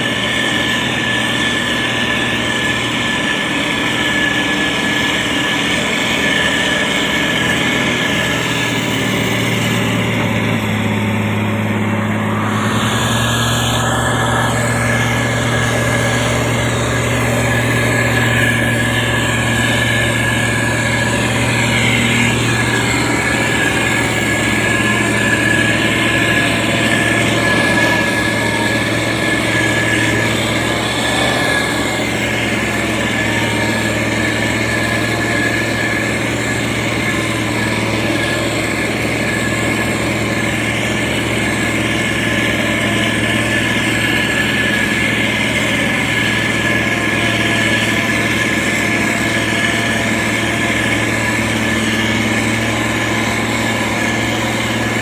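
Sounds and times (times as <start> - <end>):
motor grader diesel engine running: 0.0 - 55.0.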